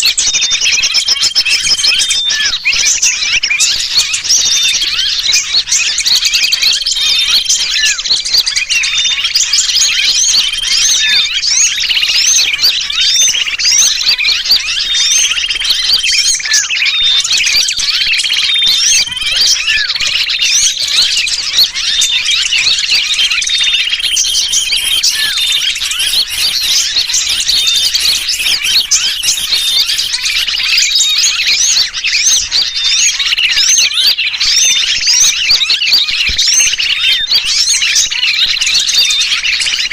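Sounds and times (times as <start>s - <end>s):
bird distress calls: 0.0s - 39.9s
small birds chattering: 0.0s - 39.9s.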